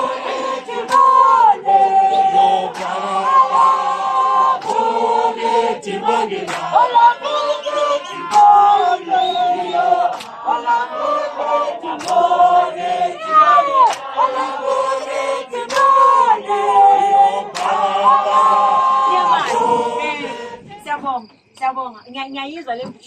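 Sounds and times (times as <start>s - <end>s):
group singing a chant: 0.0s - 20.9s.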